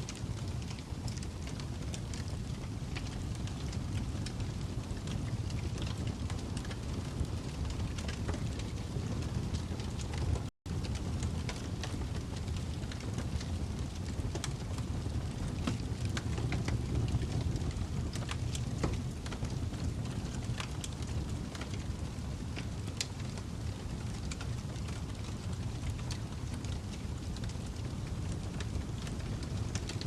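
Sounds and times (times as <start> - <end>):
fire crackling: 0.0 - 30.0.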